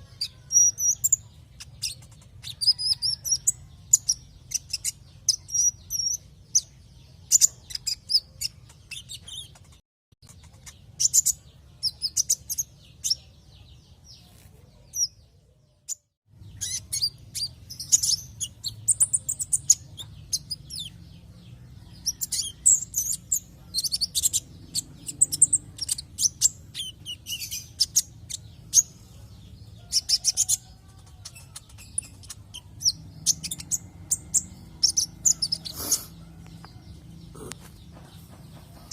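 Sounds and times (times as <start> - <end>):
bird chirping and trilling: 0.0 - 13.3, 15.9 - 21.0, 22.0 - 38.9.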